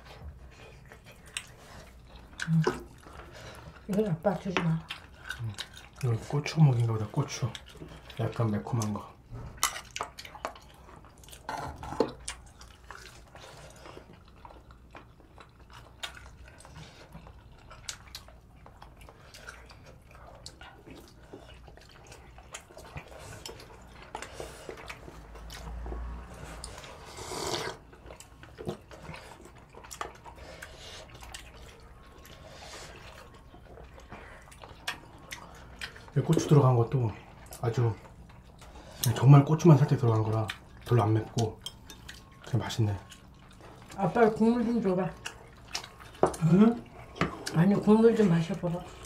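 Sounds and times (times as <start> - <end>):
chewing food: 0.0 - 49.0.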